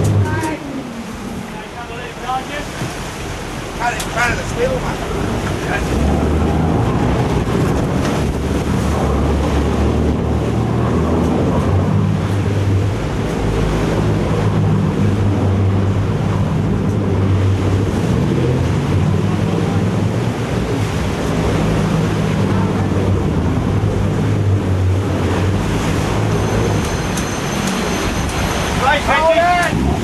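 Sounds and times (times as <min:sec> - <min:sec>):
boat engine droning: 0:00.0 - 0:30.0
water rushing and splashing: 0:00.0 - 0:30.0
wind buffeting microphone: 0:00.0 - 0:30.0.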